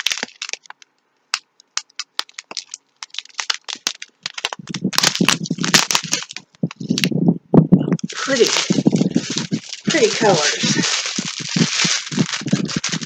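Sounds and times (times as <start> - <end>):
plastic bags crinkling: 0.0 - 7.1, 8.0 - 13.0.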